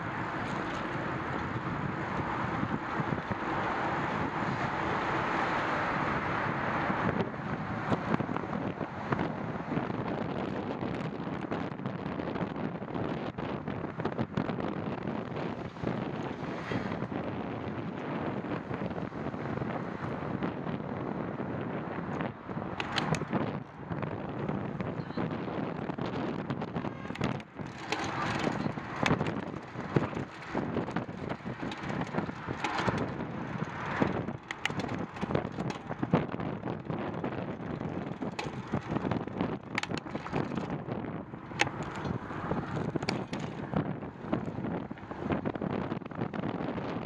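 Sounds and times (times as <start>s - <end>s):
bike rattling over bumps: 0.0s - 21.3s, 22.1s - 47.0s
bicycle tyres rolling on concrete: 0.0s - 47.0s
wind buffeting microphone: 0.0s - 47.0s.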